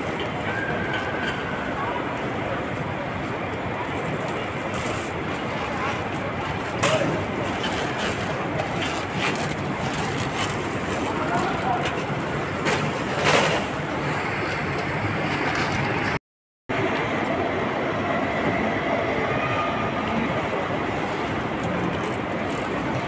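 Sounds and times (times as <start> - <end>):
airport terminal rumble: 0.0 - 23.0.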